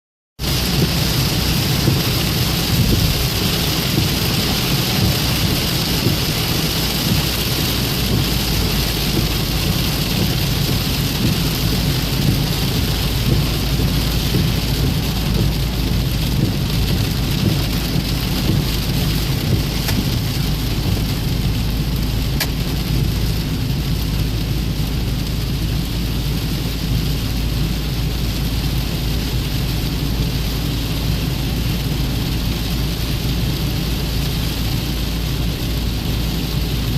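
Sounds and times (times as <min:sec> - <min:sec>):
low rumble: 0:00.4 - 0:36.9
rain falling: 0:00.4 - 0:36.9.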